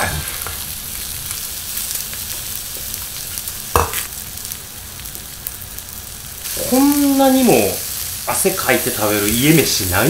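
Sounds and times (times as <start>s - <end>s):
meat sizzling on a grill plate: 0.0s - 10.0s.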